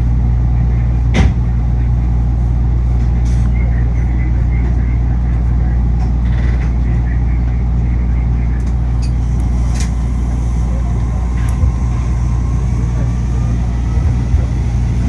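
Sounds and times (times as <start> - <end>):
monorail car hum and rumble: 0.0 - 15.0.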